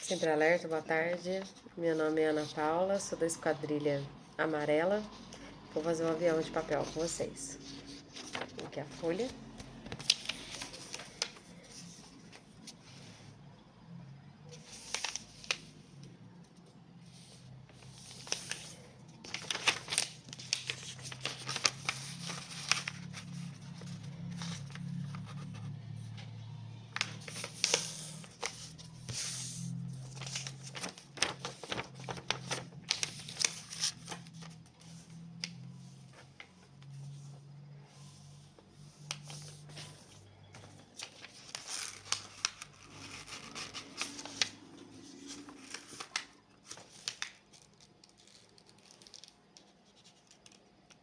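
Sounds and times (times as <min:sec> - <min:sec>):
paper being folded and creased: 0:00.0 - 0:02.6, 0:05.0 - 0:13.3, 0:14.5 - 0:51.0.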